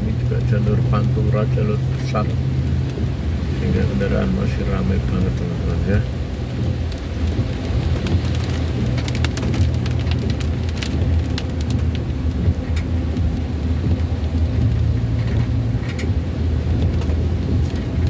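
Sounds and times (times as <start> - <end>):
raindrops ticking on windshield: 0.0 - 18.0
tyres on wet road: 0.0 - 18.0
vehicle engine drone: 0.0 - 18.0.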